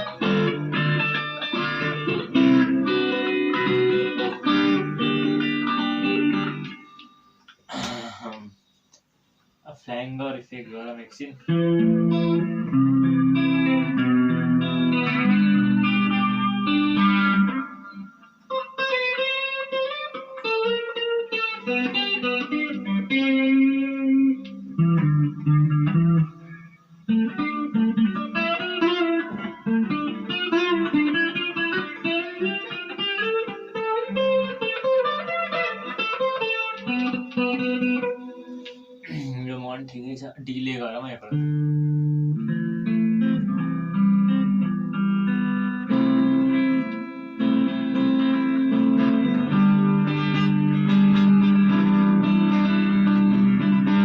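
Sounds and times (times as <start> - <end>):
electric guitar with flanger: 0.0 - 8.0, 11.5 - 39.4, 41.2 - 54.0.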